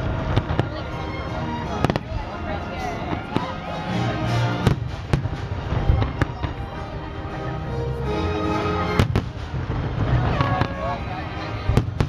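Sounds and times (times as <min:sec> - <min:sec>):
music playing: 0:00.0 - 0:12.0.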